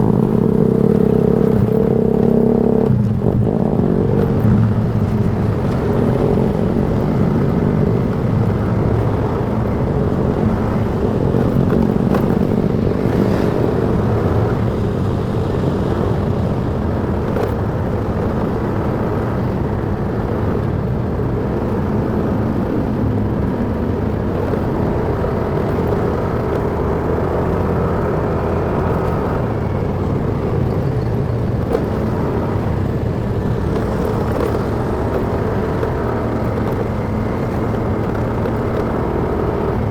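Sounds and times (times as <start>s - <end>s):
motorcycle engine hum: 0.0s - 39.9s
road and traffic noise: 0.0s - 39.9s.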